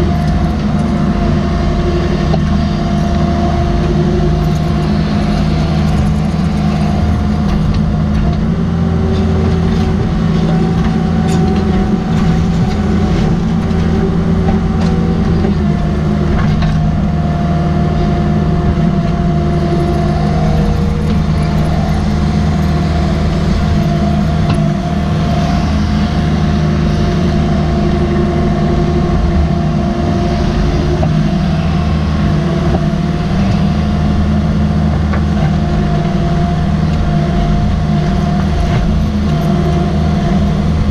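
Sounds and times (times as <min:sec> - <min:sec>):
excavator diesel engine: 0:00.0 - 0:40.9
high steady whine: 0:00.0 - 0:40.9.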